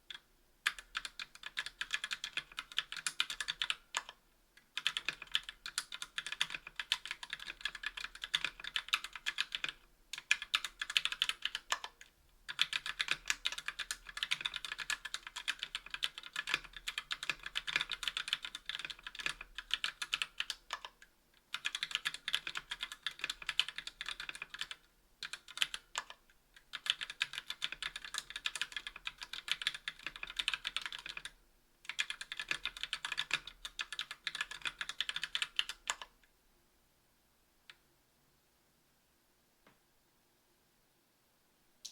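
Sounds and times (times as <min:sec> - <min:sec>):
fast typing on mechanical keyboard: 0:00.1 - 0:36.1.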